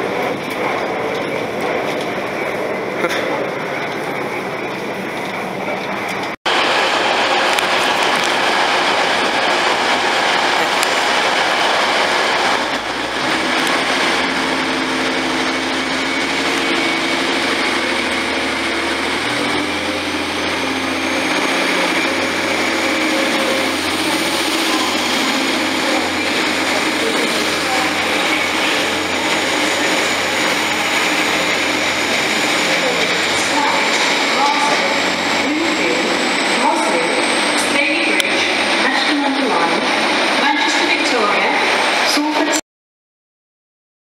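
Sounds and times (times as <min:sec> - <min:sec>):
faint high whine: 0:00.0 - 0:42.5
diesel train engine drone: 0:00.0 - 0:42.6.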